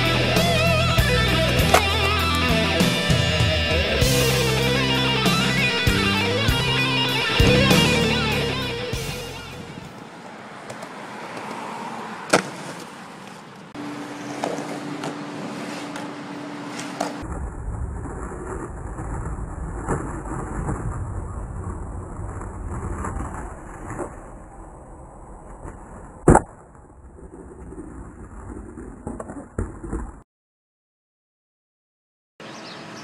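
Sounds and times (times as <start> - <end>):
skateboard wheels rolling on concrete: 0.0 - 30.2.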